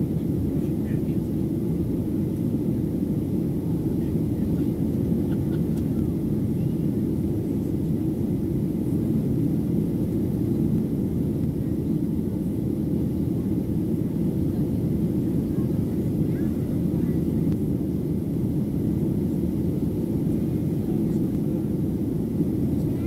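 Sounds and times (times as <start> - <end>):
low aircraft cabin drone: 0.0 - 23.0.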